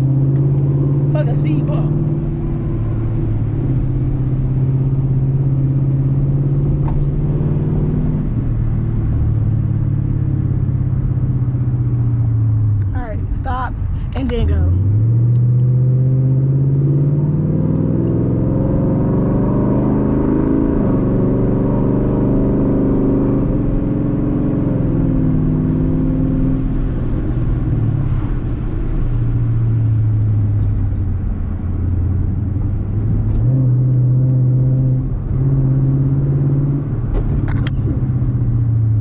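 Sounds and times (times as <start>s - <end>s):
car engine: 0.0s - 39.0s
road rumble: 0.0s - 39.0s.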